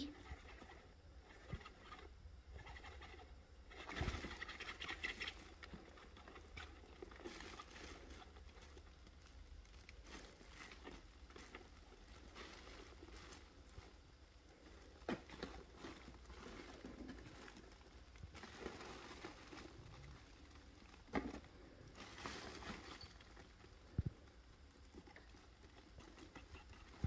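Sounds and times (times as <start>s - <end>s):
cat rustling in nylon tunnel: 0.0s - 27.0s.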